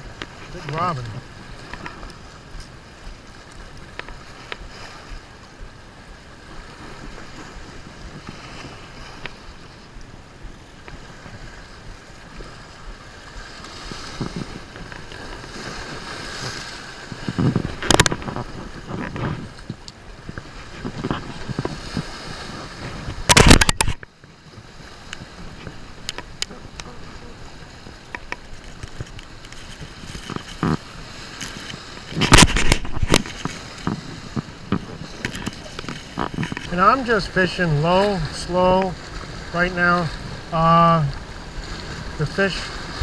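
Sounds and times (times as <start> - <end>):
waves splashing against rocks: 0.0 - 43.0
wind on microphone: 0.0 - 43.0.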